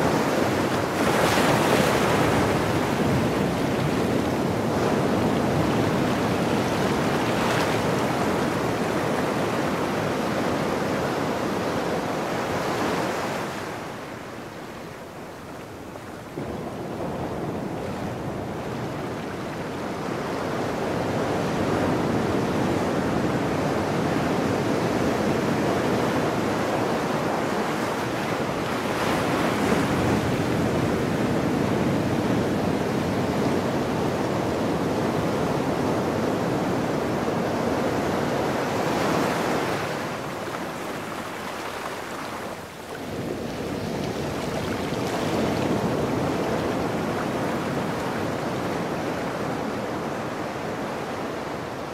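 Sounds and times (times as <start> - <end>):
ocean surf washing over rocks: 0.0 - 14.3, 15.6 - 51.9.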